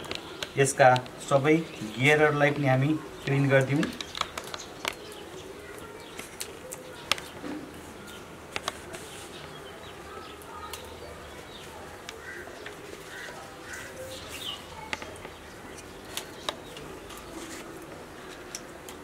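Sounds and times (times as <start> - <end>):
faint birds calling: 0.0 - 19.0.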